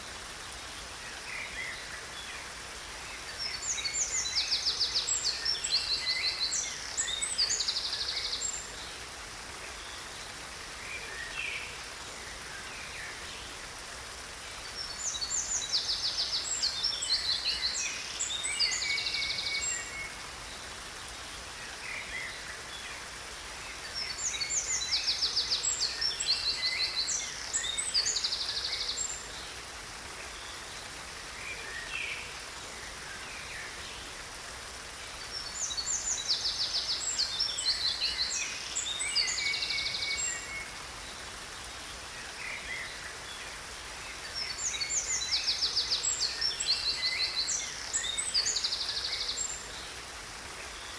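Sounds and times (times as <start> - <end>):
faint falling water: 0.0 - 50.9.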